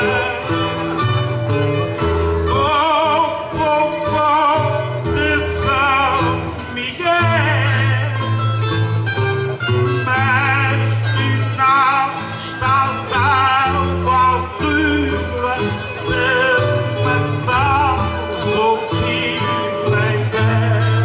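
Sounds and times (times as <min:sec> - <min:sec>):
man singing with vibrato: 0:00.0 - 0:21.0
plucked guitars: 0:00.0 - 0:21.0.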